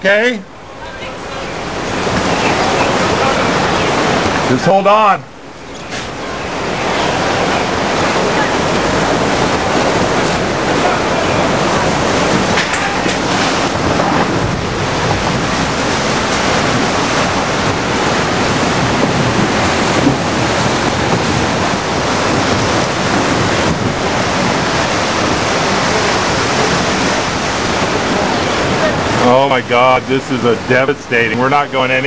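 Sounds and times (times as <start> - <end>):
floodwater rushing: 0.0 - 32.0.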